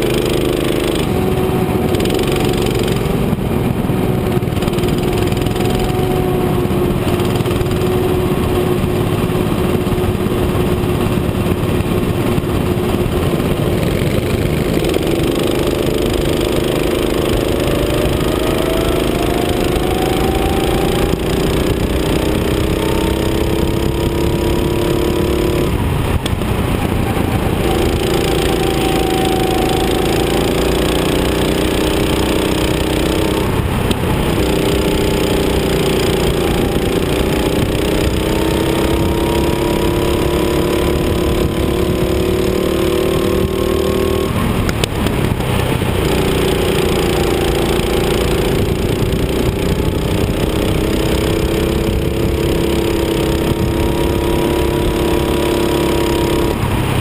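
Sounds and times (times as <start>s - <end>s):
go-kart engine revving: 0.0s - 57.0s
wind and road noise: 0.0s - 57.0s.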